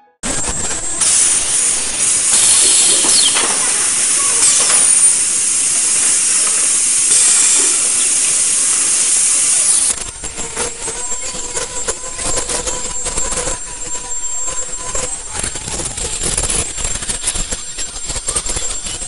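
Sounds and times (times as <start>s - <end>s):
brief falling whines: 0.2s - 19.0s
high-pitched welding hiss: 0.3s - 19.0s.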